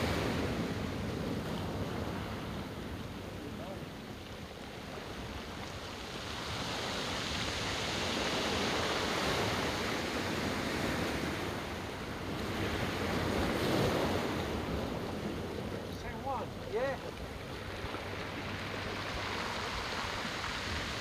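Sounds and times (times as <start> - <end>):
ocean surf on rocks: 0.0 - 21.0.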